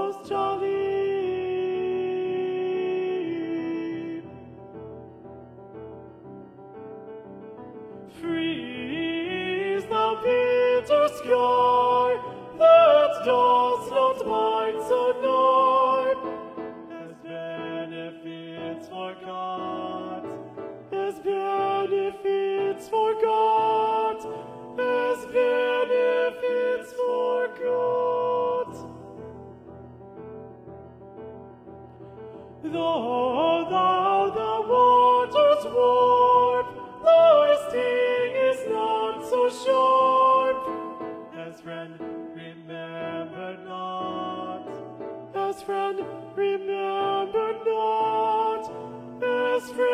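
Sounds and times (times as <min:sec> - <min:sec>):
keyboard accompaniment: 0:00.0 - 0:49.9.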